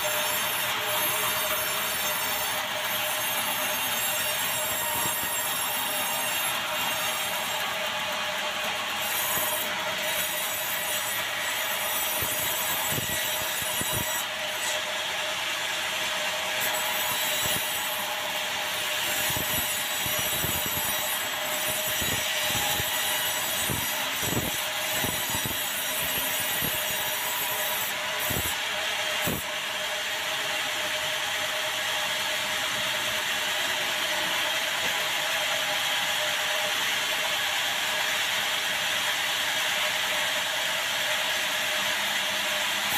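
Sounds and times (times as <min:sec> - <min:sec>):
band saw cutting timber: 0:00.0 - 0:42.9.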